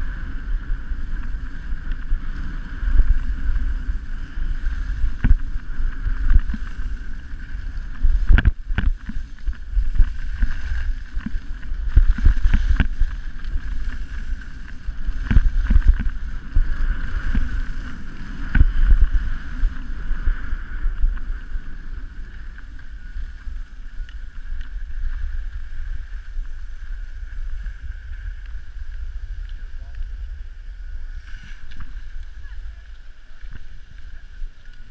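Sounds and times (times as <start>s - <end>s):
skis scraping over snow: 0.0s - 34.9s
wind buffeting microphone: 0.0s - 34.9s.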